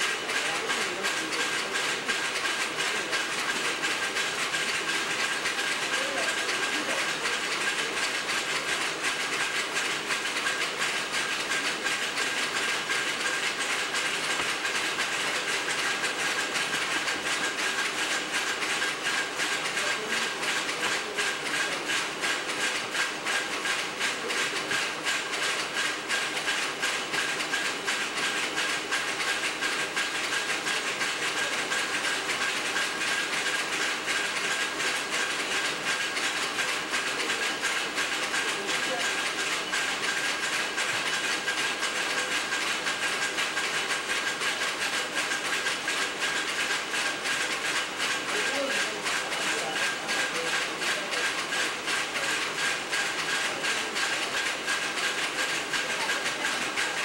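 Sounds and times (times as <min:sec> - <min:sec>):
factory machinery clattering: 0:00.0 - 0:57.0.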